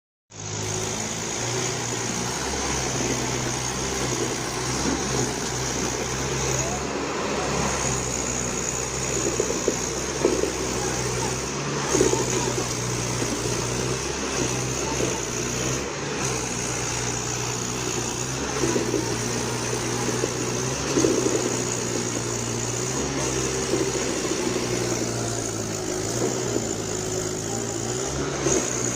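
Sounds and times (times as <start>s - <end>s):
tractor diesel engine running: 0.3s - 28.9s.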